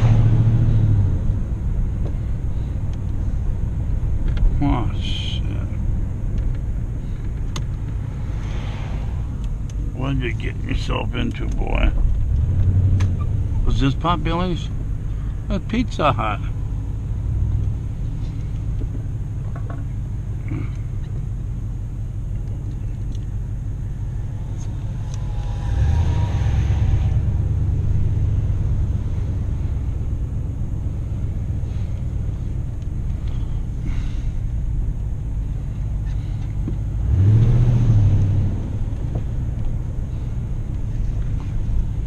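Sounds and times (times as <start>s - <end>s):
car engine: 0.0s - 42.0s
road rumble: 0.0s - 42.0s.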